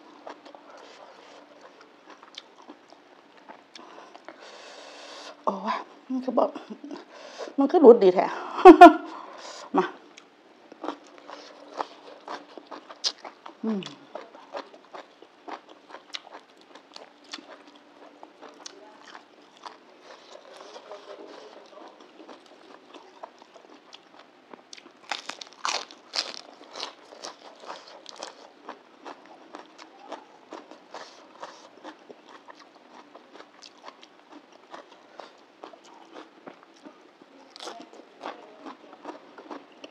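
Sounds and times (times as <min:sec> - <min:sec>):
chewing and crunching salad: 0:00.0 - 0:04.7, 0:10.1 - 0:39.9.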